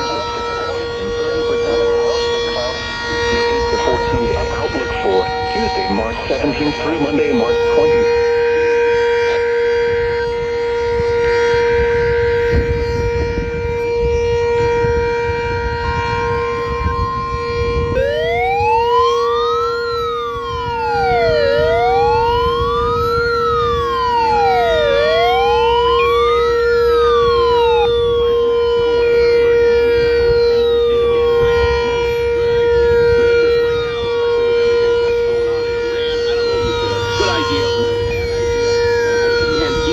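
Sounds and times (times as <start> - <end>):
steady siren tone: 0.0 - 39.9
wailing siren: 0.0 - 39.9.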